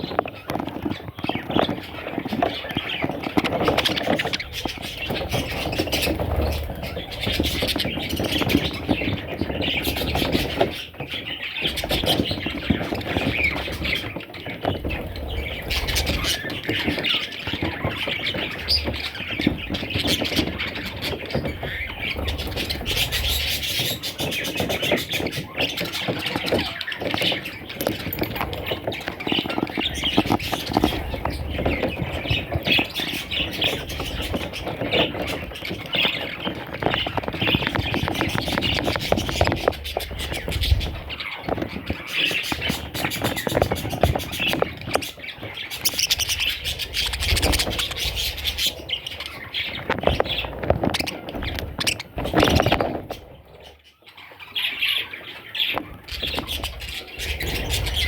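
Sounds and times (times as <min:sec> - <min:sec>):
budgerigars chattering and squawking: 0:00.0 - 0:58.0.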